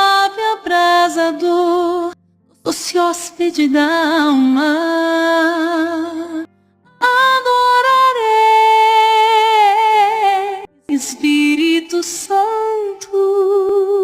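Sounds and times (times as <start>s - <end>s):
woman singing slow worship song: 0.0s - 14.0s.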